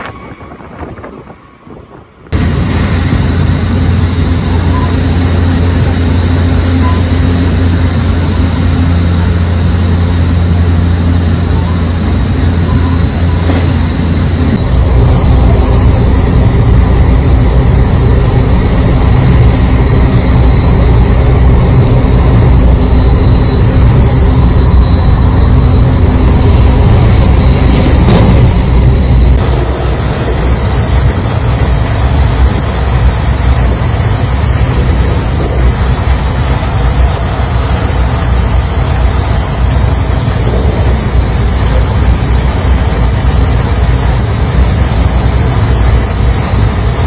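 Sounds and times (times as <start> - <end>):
train traction motor hum: 0.0 - 47.0
wheels rumbling on rail: 0.0 - 47.0.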